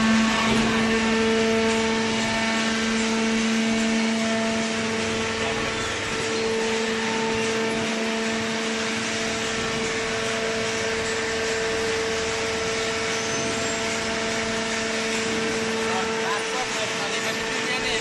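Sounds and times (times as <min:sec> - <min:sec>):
hydraulic baler motor humming: 0:00.0 - 0:18.0.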